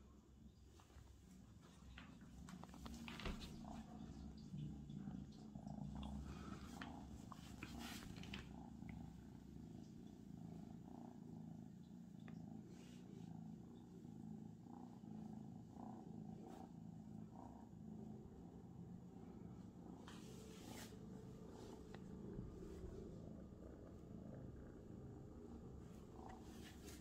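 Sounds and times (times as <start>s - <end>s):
kitten purring: 0.0s - 27.0s.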